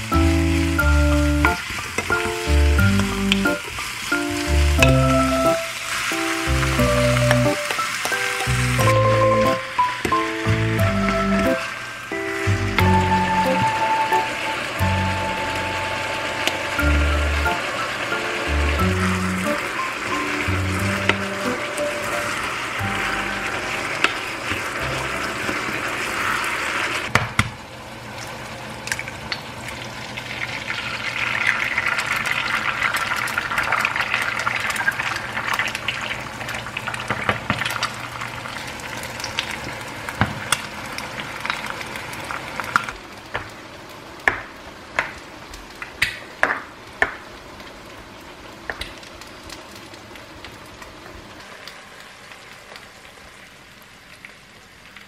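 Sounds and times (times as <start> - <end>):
egg sizzling in a pan: 0.0 - 55.0.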